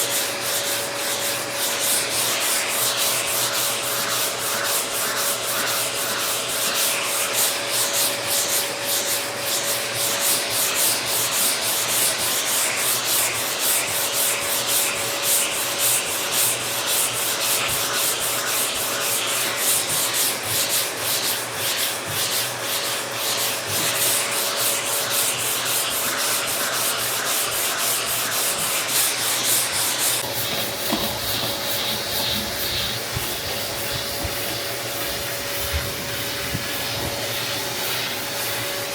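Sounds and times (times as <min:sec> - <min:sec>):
sandpaper scraping a car panel: 0:00.0 - 0:38.6.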